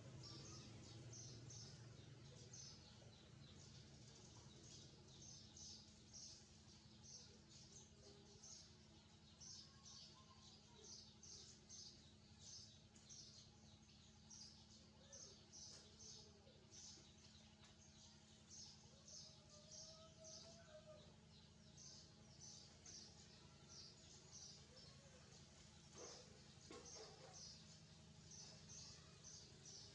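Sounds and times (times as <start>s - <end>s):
young birds chirping: 0.0s - 29.9s.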